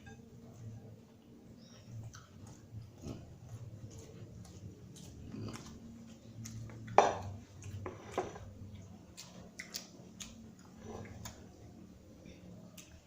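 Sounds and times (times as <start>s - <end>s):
chewing: 1.6s - 13.0s.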